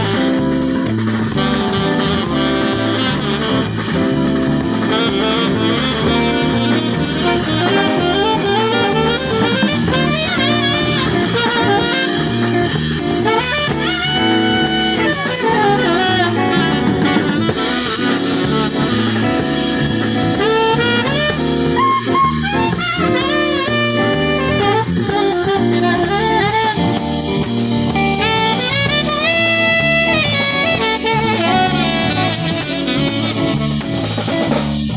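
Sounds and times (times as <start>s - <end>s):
saxophone melody: 0.0s - 34.6s
drum kit beat: 0.0s - 34.9s
jazz band playing: 0.0s - 34.9s.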